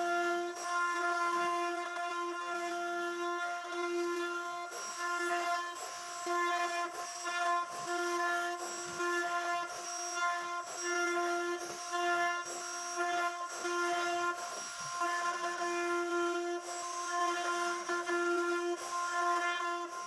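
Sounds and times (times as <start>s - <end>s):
router spindle whining cutting wood: 0.0s - 20.0s.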